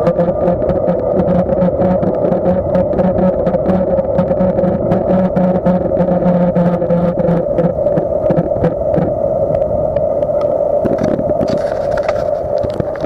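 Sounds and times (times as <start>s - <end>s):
bicycle riding hum: 0.0s - 13.0s.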